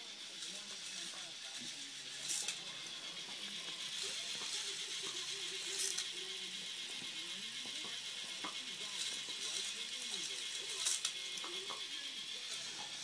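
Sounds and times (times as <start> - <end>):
toy roller coaster whirring and rattling: 0.0 - 13.0.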